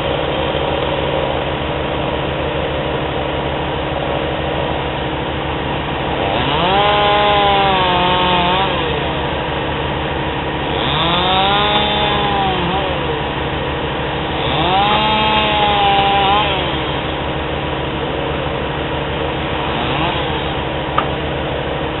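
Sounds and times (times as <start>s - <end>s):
chainsaw idling and revving: 3.5s - 22.0s.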